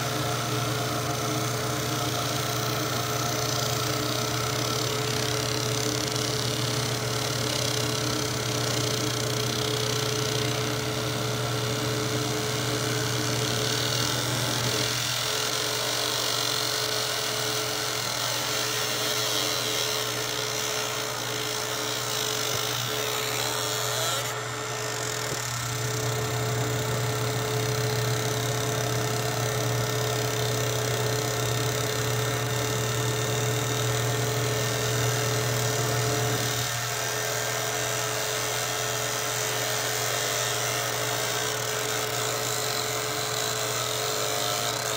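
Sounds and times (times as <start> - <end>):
laser engraver buzzing: 0.0 - 44.9.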